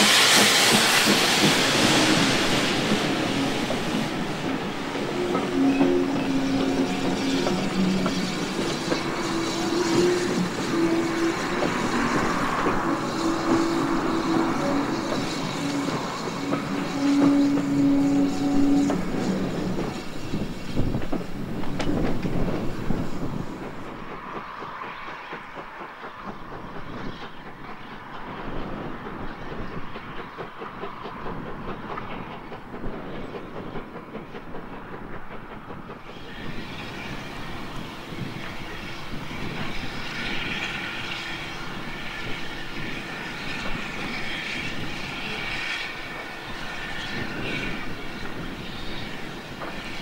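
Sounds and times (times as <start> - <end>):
distant steam locomotive: 0.0 - 50.0.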